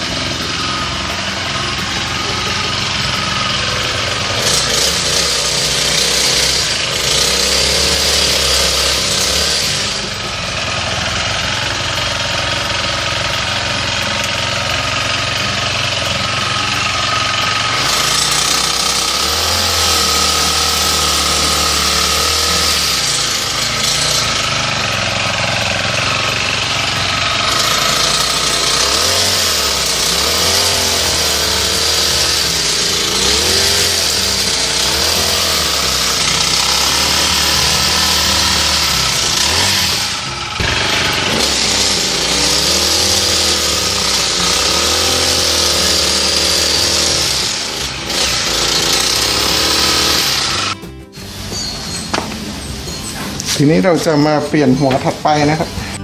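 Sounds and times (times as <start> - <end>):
small engine running at working throttle: 0.0 - 56.0.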